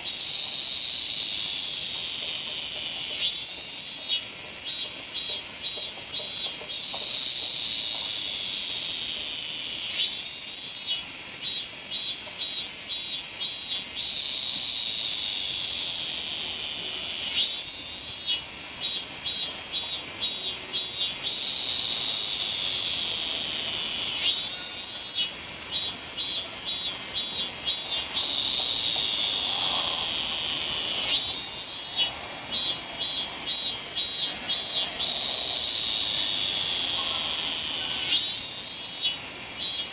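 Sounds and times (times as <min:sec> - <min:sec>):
cicada pulsed song: 0:00.0 - 0:39.9.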